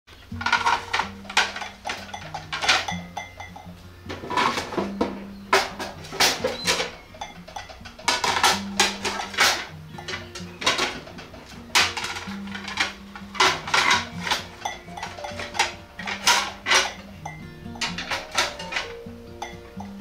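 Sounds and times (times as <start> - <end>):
background music with bass line: 0.2 - 20.0
plates clattering and clinking: 0.2 - 20.0.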